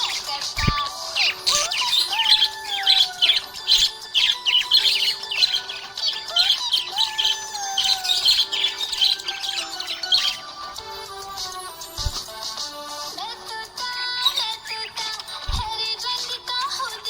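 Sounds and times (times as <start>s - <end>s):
background music: 0.0s - 17.0s
budgies chirping and squawking: 0.0s - 17.0s.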